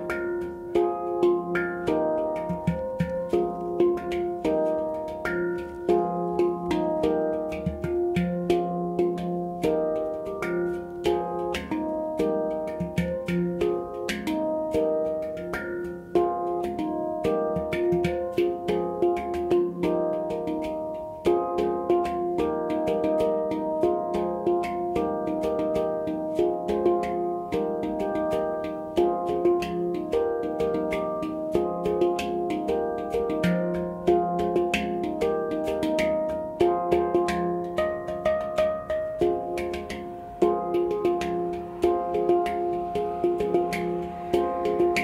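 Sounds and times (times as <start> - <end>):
handpan notes ringing: 0.0 - 45.0.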